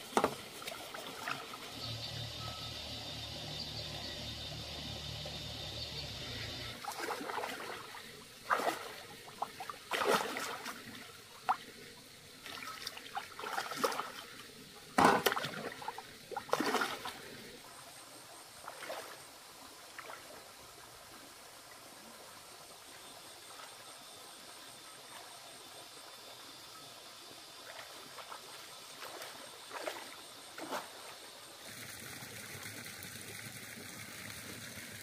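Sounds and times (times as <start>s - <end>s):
river water splashing: 0.0s - 26.5s, 27.2s - 35.0s.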